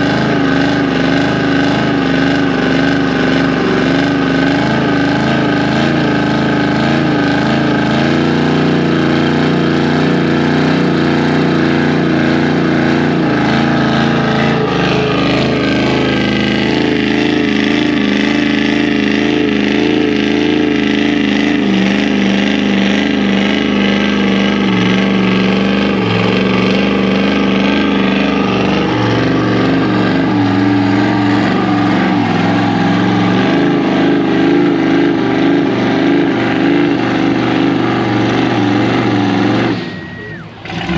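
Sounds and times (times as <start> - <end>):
truck engine at high revs: 0.0 - 40.9.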